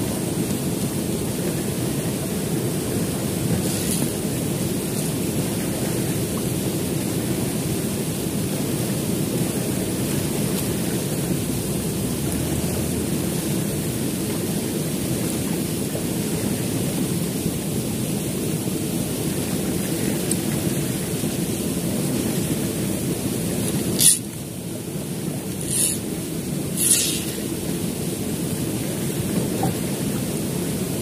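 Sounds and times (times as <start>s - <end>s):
river current rushing: 0.0s - 15.9s, 17.1s - 31.0s.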